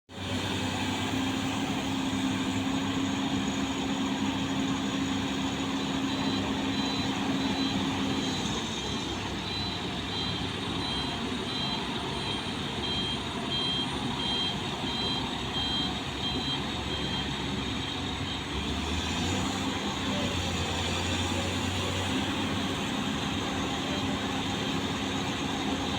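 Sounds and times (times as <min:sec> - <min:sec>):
bulldozer diesel engine running: 0:00.1 - 0:25.9.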